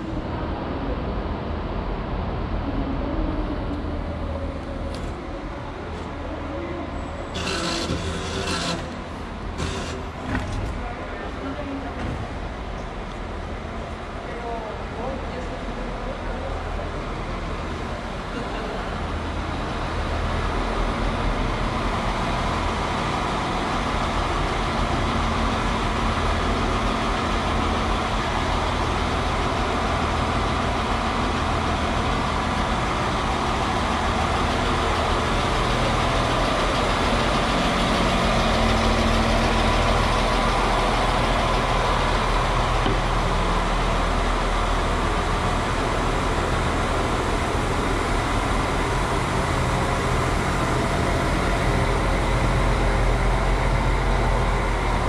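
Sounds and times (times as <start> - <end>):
train engine idling hum: 0.0 - 55.0.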